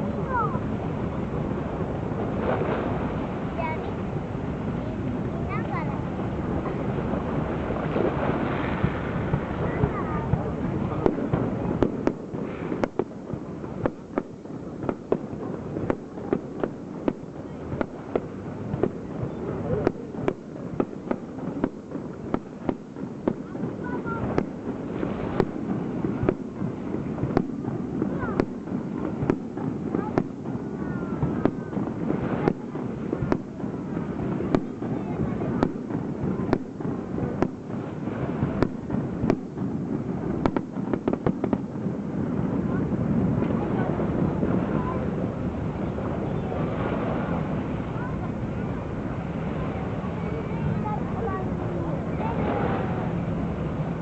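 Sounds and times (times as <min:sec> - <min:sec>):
firework bangs: 0:00.0 - 0:54.0.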